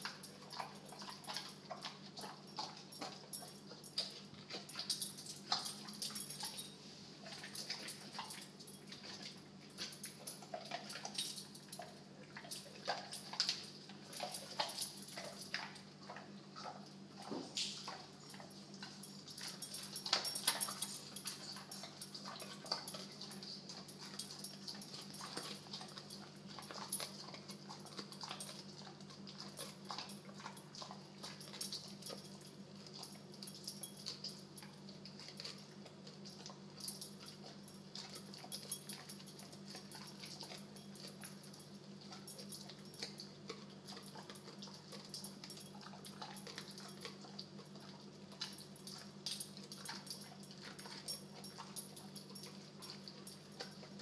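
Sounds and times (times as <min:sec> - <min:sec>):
dog chewing: 0:00.0 - 0:54.0.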